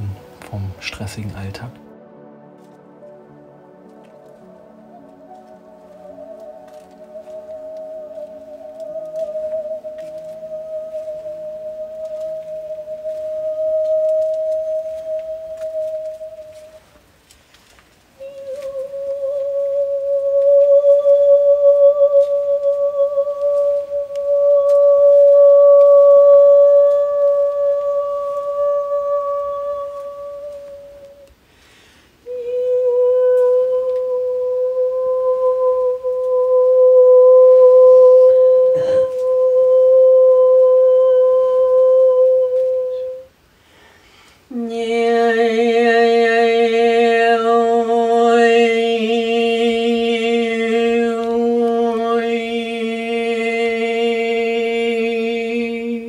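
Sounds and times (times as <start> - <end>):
woman humming long notes: 1.9 - 17.3, 18.1 - 31.5, 32.2 - 43.6, 44.4 - 56.0.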